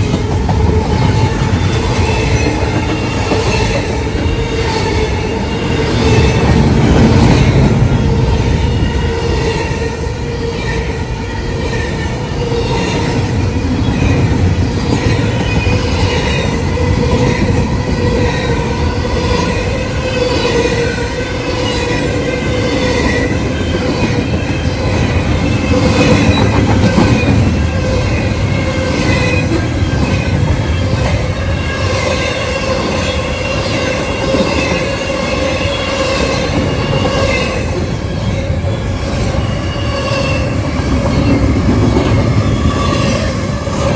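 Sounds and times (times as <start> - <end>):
rumble of wheels on rail: 0.0 - 43.9.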